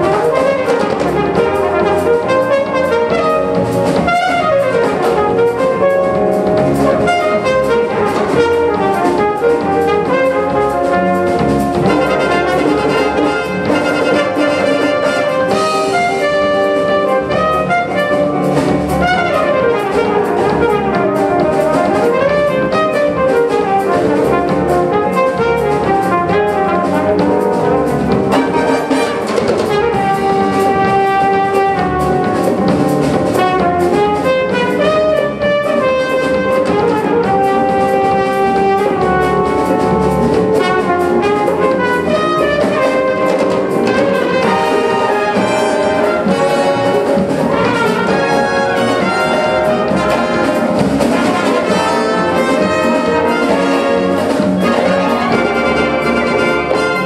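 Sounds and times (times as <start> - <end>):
brass and wind band playing: 0.0 - 57.0.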